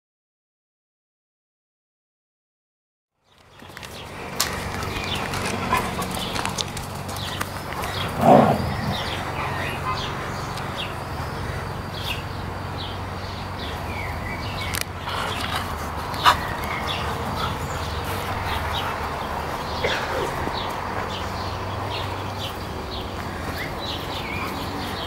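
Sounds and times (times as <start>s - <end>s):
small birds chirping: 3.2s - 25.0s.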